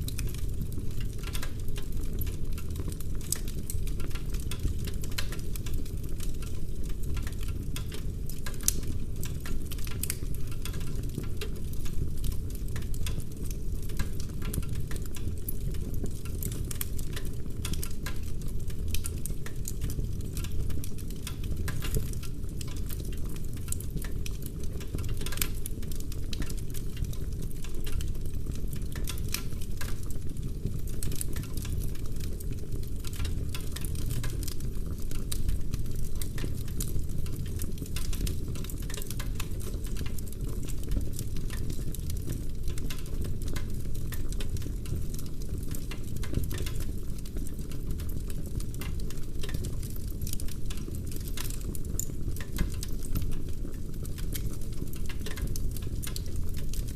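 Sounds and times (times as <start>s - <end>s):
low rumble of flame: 0.0s - 56.9s
wood fire crackling: 0.0s - 56.9s.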